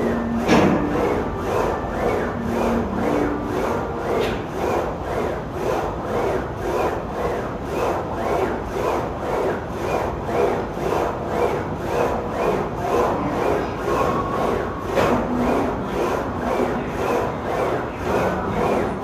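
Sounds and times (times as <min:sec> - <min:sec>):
leg press sled grinding on rails: 0:00.0 - 0:19.0.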